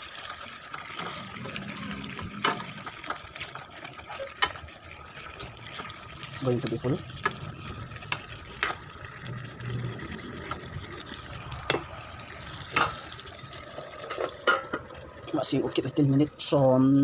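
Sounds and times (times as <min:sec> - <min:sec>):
curry sizzling in a pan: 0:00.0 - 0:17.0.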